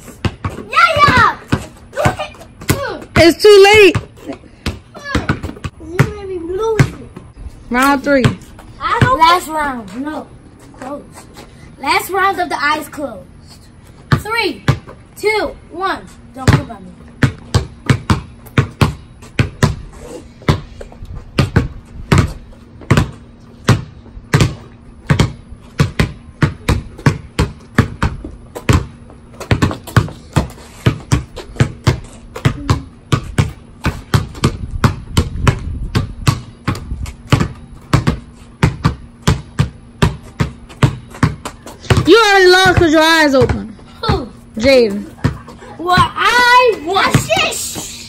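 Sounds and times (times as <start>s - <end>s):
basketballs bouncing on concrete: 0.0s - 11.0s, 13.9s - 48.0s.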